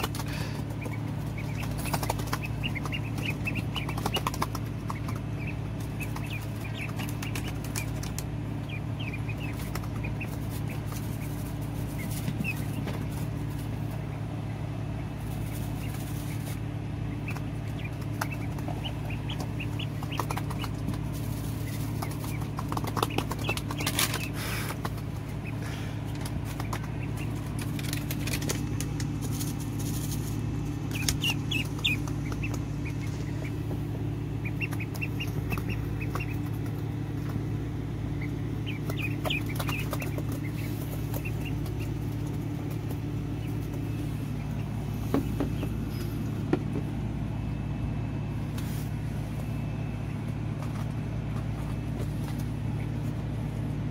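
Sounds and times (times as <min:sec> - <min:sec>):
ducklings peeping: 0:00.0 - 0:53.9
steady low hum: 0:00.0 - 0:53.9.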